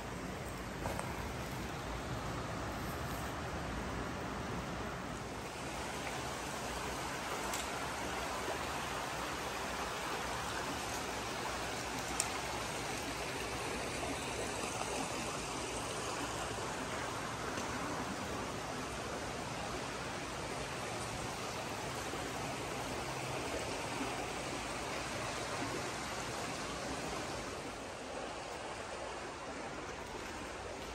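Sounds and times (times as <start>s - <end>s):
stream flowing over rocks: 0.0s - 30.9s.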